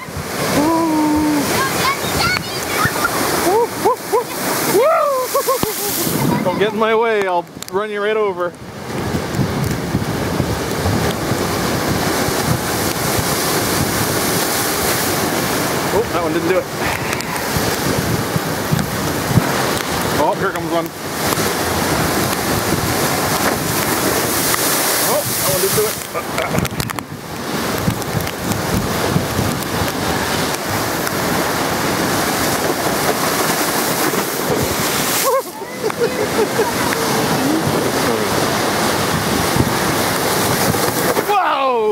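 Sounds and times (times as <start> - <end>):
wind buffeting microphone: 0.0 - 7.7, 8.4 - 41.4
waves crashing against seawall: 0.0 - 41.9.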